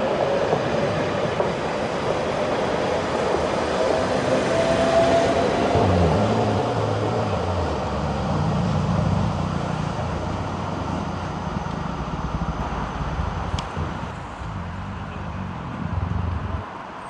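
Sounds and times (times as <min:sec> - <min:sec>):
tram rumbling along track: 0:00.0 - 0:17.0.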